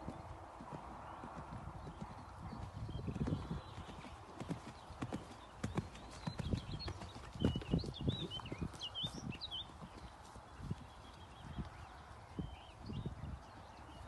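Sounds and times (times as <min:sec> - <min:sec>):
horse hoofbeats on sand: 0:00.0 - 0:12.6.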